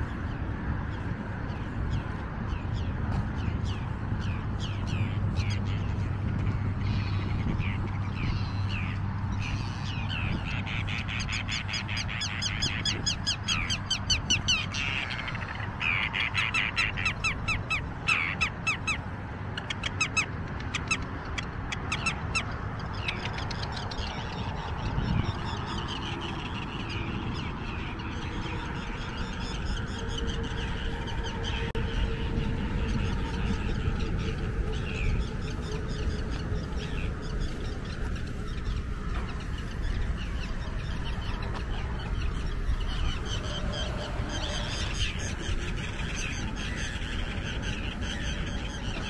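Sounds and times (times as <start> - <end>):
steady low rumble: 0.0 - 49.0
terns calling: 1.5 - 49.0.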